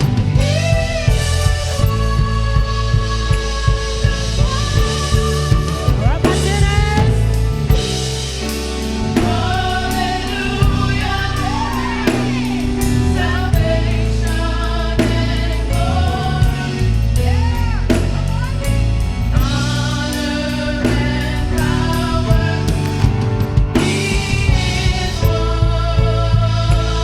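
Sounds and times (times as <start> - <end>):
band with bass and drums: 0.0 - 27.0
voices singing worship song: 0.0 - 27.0.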